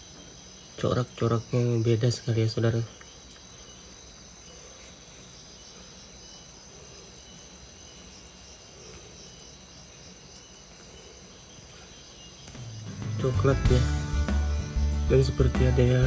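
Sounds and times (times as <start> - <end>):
faint background hiss: 0.0 - 16.0
insects chorus: 0.0 - 16.0.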